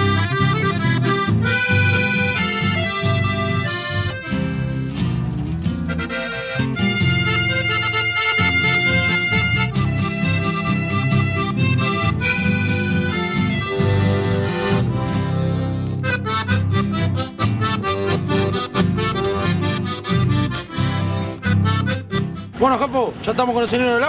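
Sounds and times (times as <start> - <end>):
accordion music: 0.0 - 22.9.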